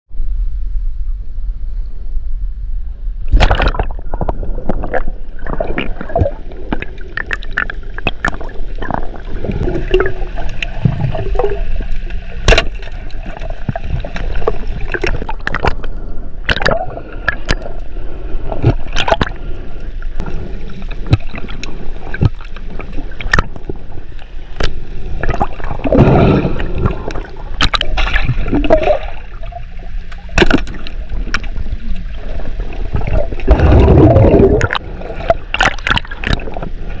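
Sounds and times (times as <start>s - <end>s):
low rumble: 0.1s - 35.6s
water sloshing and gurgling: 2.2s - 37.0s.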